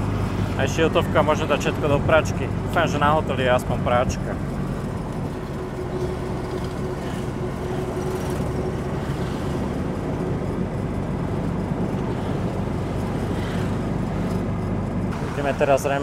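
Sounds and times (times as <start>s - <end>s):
auto-rickshaw engine running: 0.0s - 16.0s
road and passing traffic: 0.0s - 16.0s.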